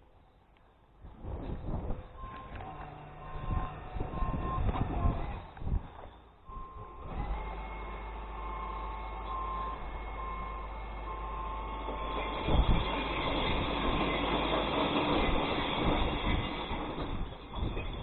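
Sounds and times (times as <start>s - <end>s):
thin steady whine: 0.0s - 18.0s
truck engine and hydraulics: 0.0s - 18.0s.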